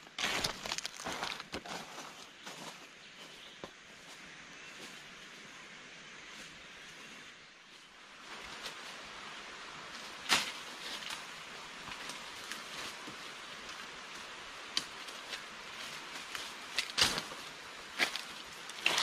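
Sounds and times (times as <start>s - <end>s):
footsteps on dry leaves and twigs: 0.0s - 5.6s, 6.2s - 19.0s
steady high hiss: 3.6s - 19.0s.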